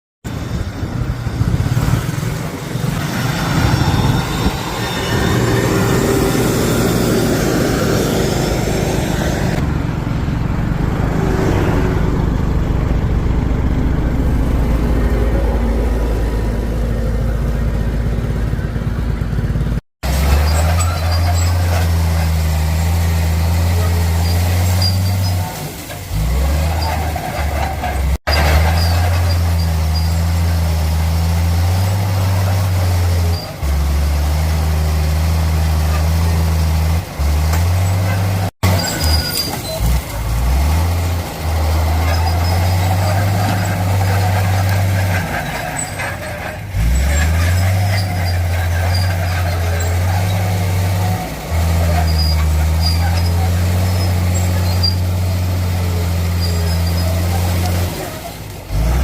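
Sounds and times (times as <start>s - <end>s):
bulldozer engine droning: 0.2s - 59.0s.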